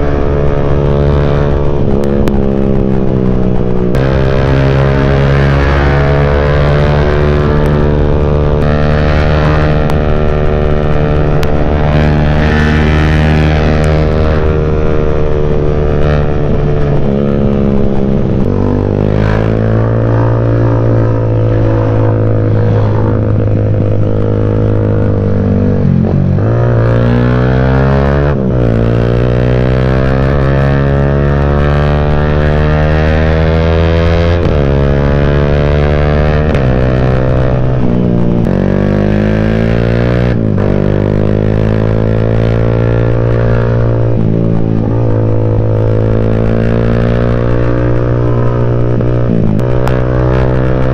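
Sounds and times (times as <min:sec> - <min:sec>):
motorcycle engine while riding: 0:00.0 - 0:50.9.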